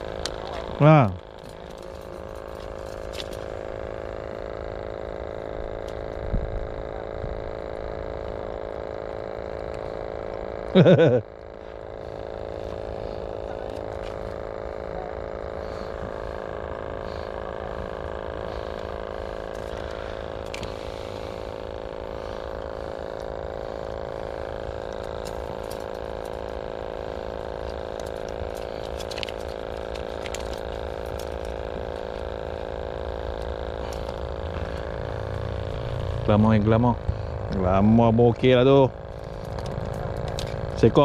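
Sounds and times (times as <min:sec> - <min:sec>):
steady motor hum: 0:00.0 - 0:41.0.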